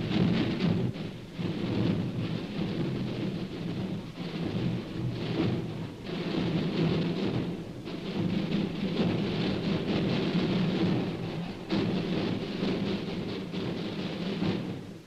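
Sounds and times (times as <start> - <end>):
massed drums rolling: 0.0 - 15.0.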